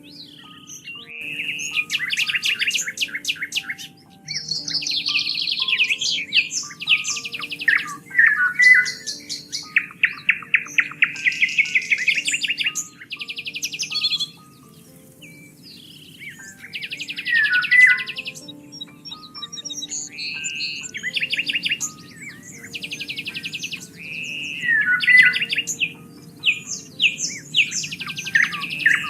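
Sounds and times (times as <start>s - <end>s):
soft background music: 0.0s - 29.0s
songbirds trilling and chirping: 0.0s - 29.0s.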